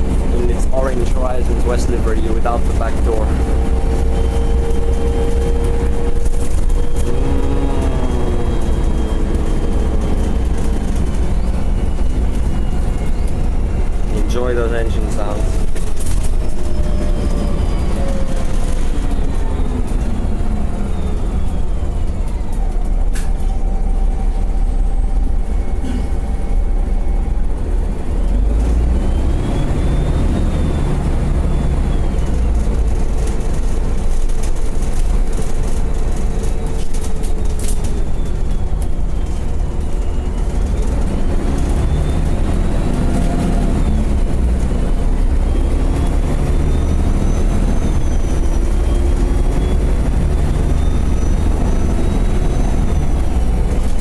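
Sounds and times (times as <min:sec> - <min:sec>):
bus engine rumble and whine: 0:00.0 - 0:54.0.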